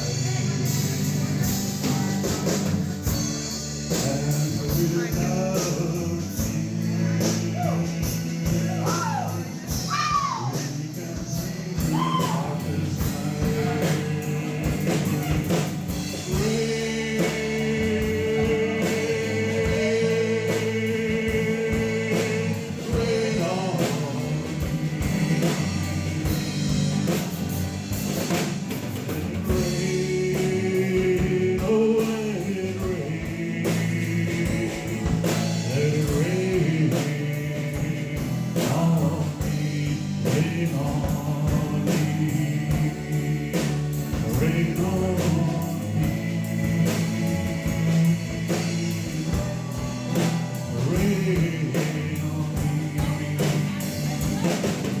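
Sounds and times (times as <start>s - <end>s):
drum kit beat: 0.0s - 55.0s
guitars and bass: 0.0s - 55.0s
person singing: 3.9s - 55.0s.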